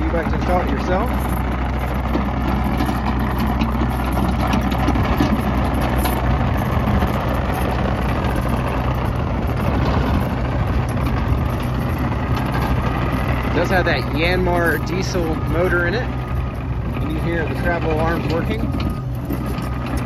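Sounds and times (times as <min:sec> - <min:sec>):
mini excavator diesel engine: 0:00.0 - 0:20.0.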